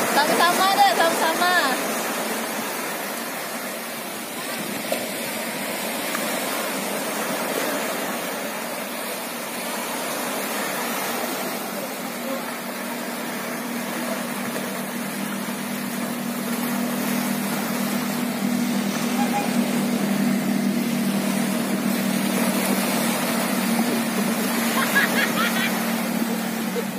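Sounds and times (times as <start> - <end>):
small waves breaking: 0.0 - 26.9.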